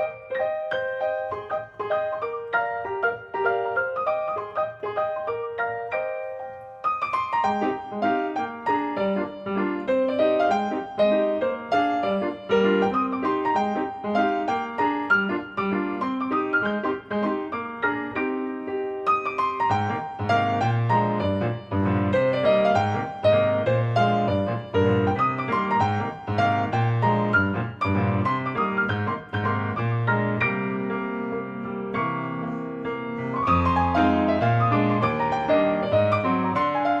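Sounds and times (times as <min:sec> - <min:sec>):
piano music with bass line: 0:00.0 - 0:37.0.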